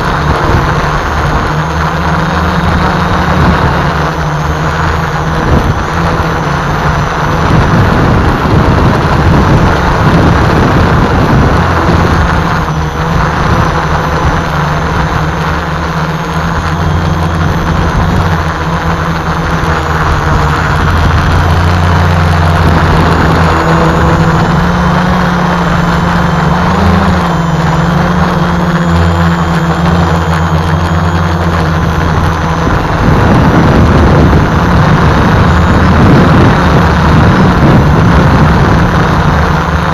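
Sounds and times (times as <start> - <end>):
drone motors humming and whining: 0.0 - 39.9
wind rumble on microphone: 0.0 - 39.9.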